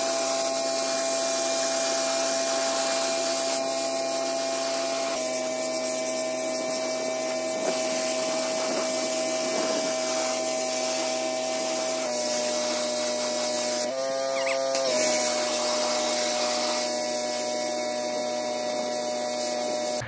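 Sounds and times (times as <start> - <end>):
pressure washer engine running: 0.0 - 20.0
water jet hissing: 0.0 - 20.0.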